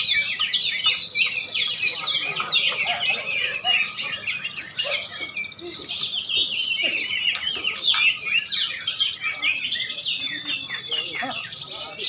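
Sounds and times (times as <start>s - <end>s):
caged songbirds singing: 0.0s - 12.0s.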